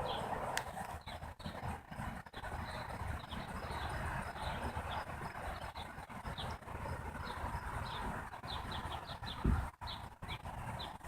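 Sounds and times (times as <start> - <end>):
small birds chirping: 0.0 - 11.0
wind buffeting microphone: 0.0 - 11.0.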